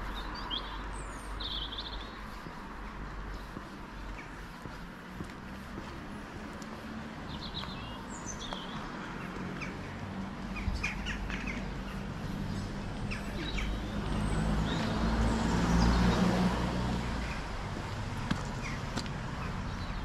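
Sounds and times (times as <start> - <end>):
motor vehicle humming: 0.0 - 20.0
small birds chirping: 0.0 - 20.0.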